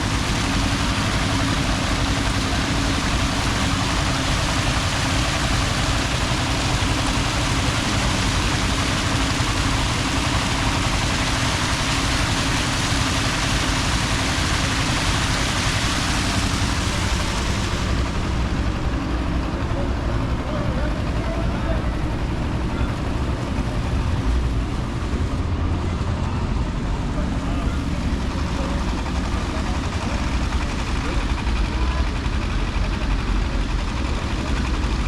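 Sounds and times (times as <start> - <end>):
engine hum with low rumble: 0.0 - 35.0.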